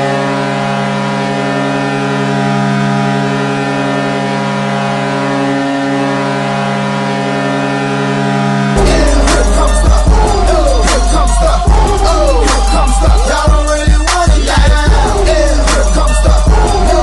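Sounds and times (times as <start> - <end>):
deep goal horn blast: 0.0 - 14.0.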